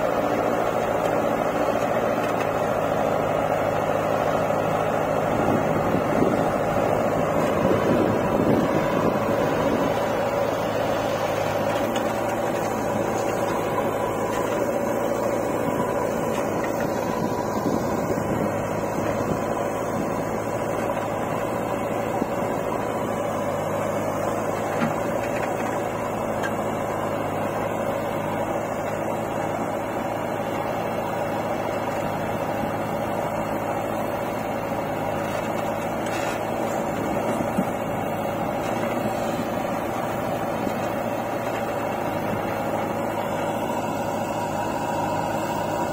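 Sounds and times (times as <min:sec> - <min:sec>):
diesel engine drone: 0:00.0 - 0:45.9.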